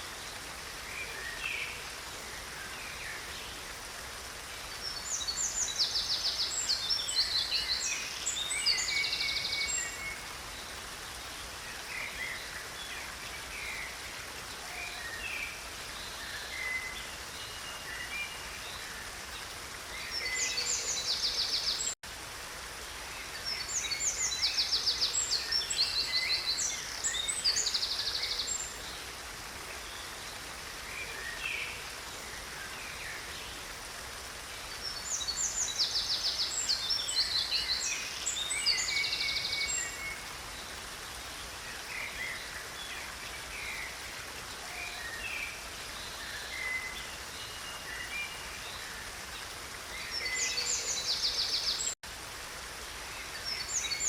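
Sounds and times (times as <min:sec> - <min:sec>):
creek running: 0:00.0 - 0:54.0.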